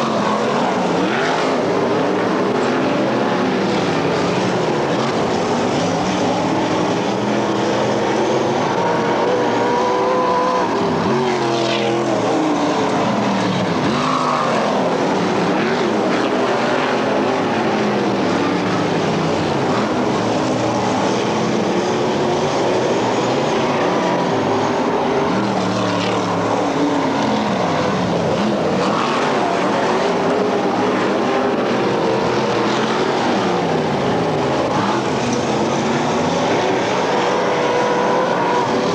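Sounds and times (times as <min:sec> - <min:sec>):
race car engines running hard: 0:00.0 - 0:38.9.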